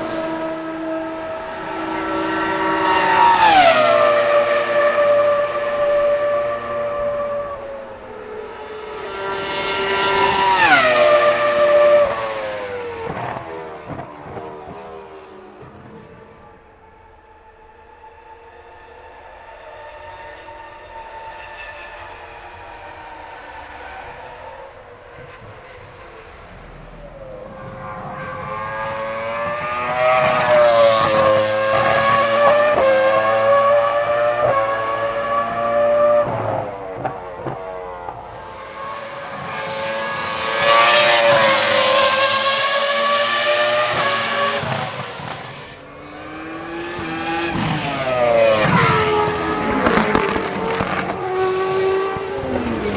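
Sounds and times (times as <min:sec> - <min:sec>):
racing car engine at high revs: 0:00.0 - 0:52.9.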